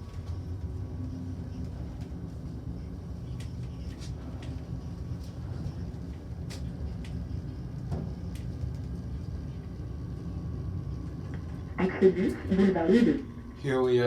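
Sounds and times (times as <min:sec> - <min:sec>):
elevator low rumble: 0:00.0 - 0:14.0.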